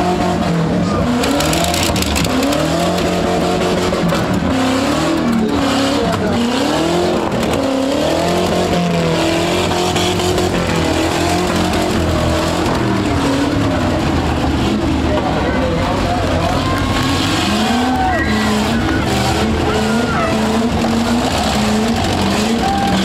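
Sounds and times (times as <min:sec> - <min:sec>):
truck engines revving: 0:00.0 - 0:23.0.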